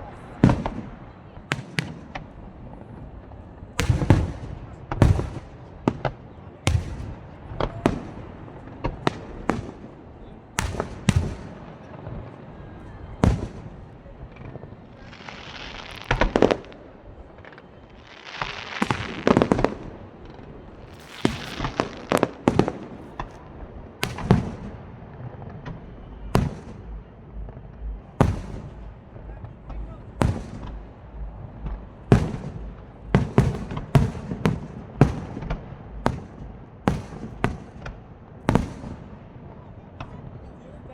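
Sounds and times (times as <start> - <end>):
fireworks bursting in bangs: 3.8 - 12.4, 13.2 - 40.2.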